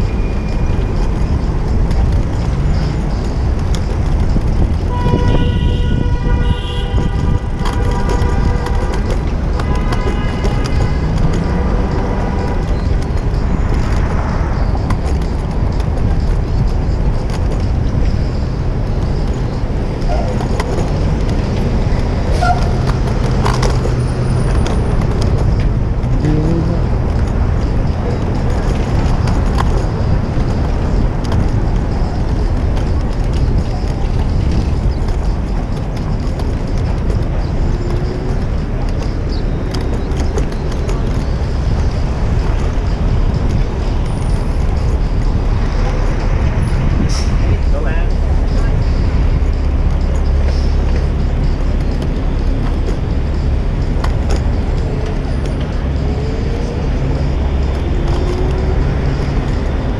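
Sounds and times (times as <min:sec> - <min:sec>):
city street traffic: 0:00.0 - 0:59.9
wind rumble on microphone: 0:00.0 - 0:59.9.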